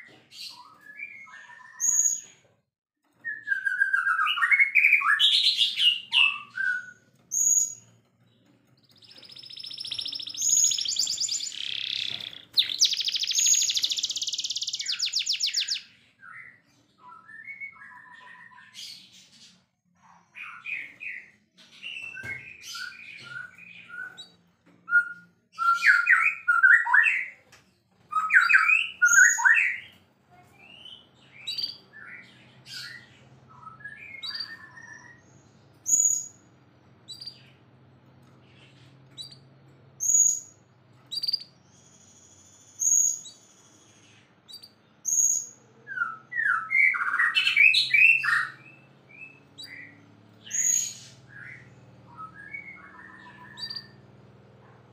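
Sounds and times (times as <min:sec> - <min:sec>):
bird whistling song: 0:00.0 - 0:02.4, 0:03.2 - 0:07.8, 0:08.9 - 0:19.2, 0:20.4 - 0:27.4, 0:28.1 - 0:29.9, 0:30.6 - 0:36.4, 0:37.1 - 0:37.5, 0:40.0 - 0:43.7, 0:44.5 - 0:54.0.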